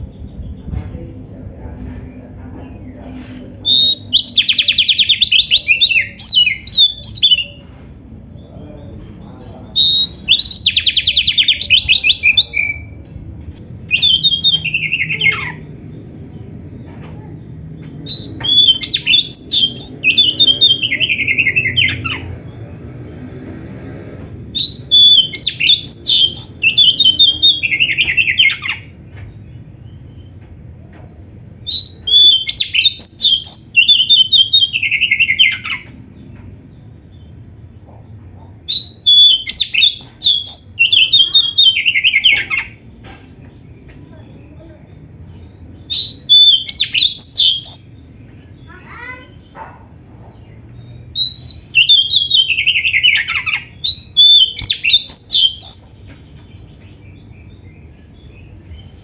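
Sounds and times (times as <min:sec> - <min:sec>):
bird singing varied song: 0:00.0 - 0:22.9, 0:24.3 - 0:59.0.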